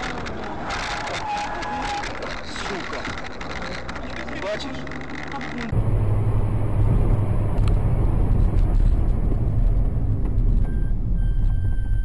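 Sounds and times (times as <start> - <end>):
car engine and tyre drone: 0.0 - 12.0.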